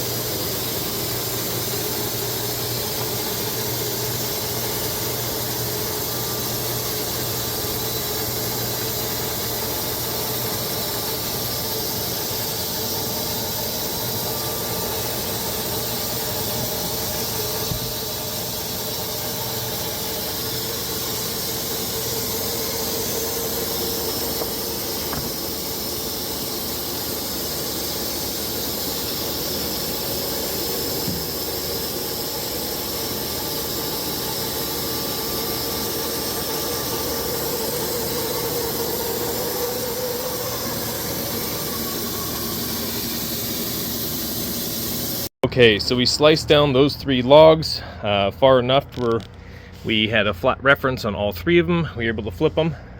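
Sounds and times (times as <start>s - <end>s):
band saw cutting logs: 0.0s - 50.0s.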